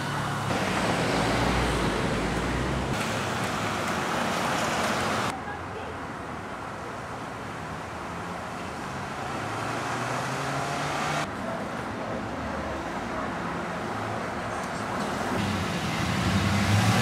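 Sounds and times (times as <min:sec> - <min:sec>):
cars running along road: 0:00.0 - 0:17.0.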